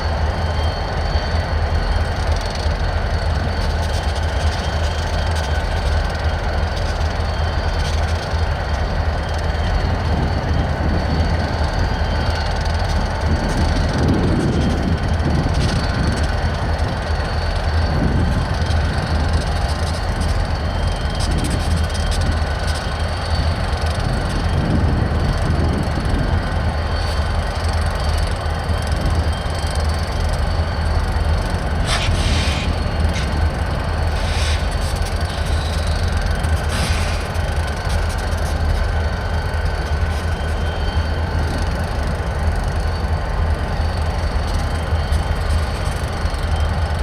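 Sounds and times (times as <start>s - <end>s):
freight train rumbling: 0.0s - 47.0s.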